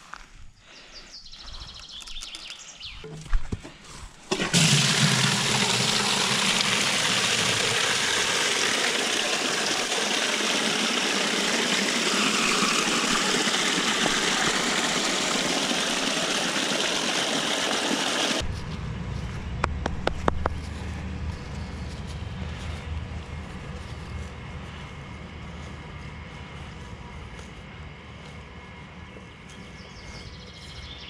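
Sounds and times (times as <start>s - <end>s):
low engine rumble: 4.6s - 31.0s.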